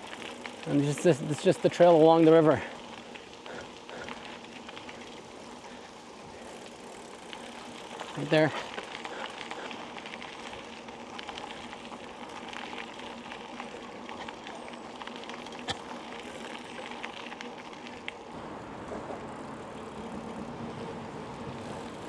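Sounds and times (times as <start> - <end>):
small ticks and rattles: 0.0 - 18.3
bicycle rolling hum: 0.0 - 22.0.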